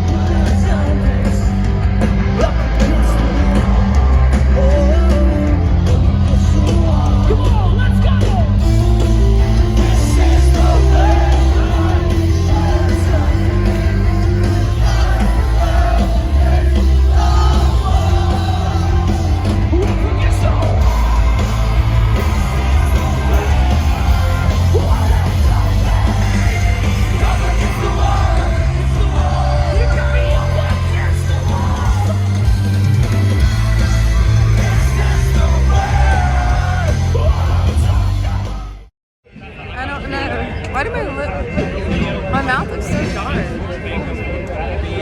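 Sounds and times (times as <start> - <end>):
rock band playing heavy chords: 0.0 - 38.9.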